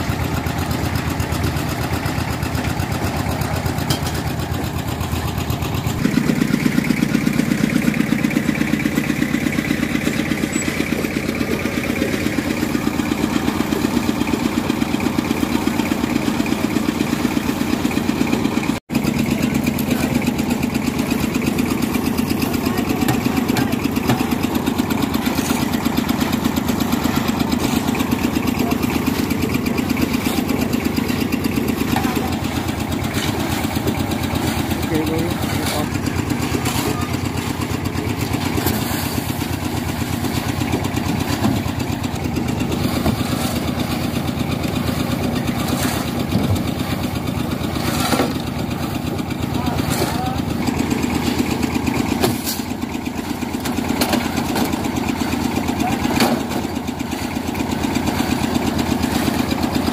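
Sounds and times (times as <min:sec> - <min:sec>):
concrete mixer engine running: 0:00.0 - 0:59.9.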